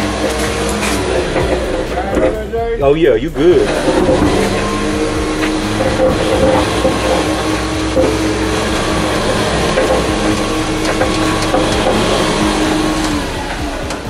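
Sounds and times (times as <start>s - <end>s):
tow truck engine running: 0.0s - 14.0s
winch whining: 0.0s - 14.0s.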